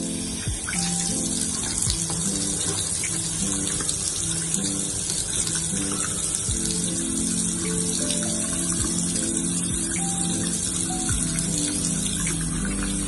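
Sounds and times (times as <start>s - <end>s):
background music with held notes: 0.0s - 13.0s
tap water running into sink: 0.0s - 13.0s.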